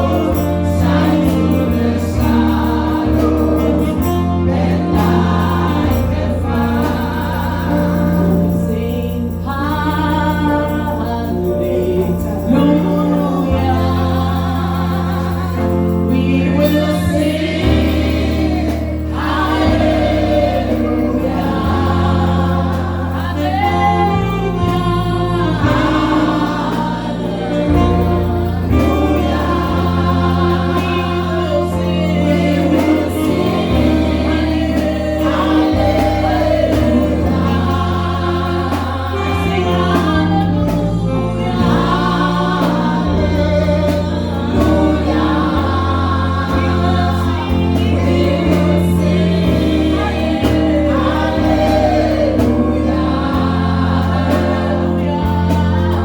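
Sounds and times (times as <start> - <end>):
bass guitar chords: 0.0 - 56.0
gospel choir singing: 0.0 - 56.0
keyboard: 0.0 - 56.0.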